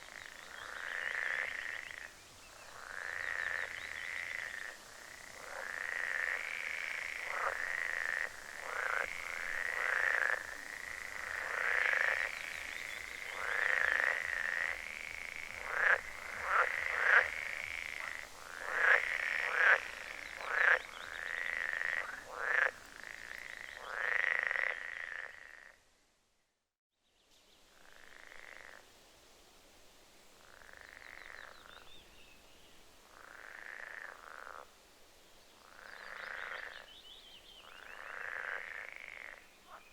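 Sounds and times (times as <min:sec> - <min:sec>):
frogs croaking: 0:00.0 - 0:25.8, 0:27.7 - 0:28.9, 0:30.4 - 0:31.9, 0:33.0 - 0:34.8, 0:35.6 - 0:39.9.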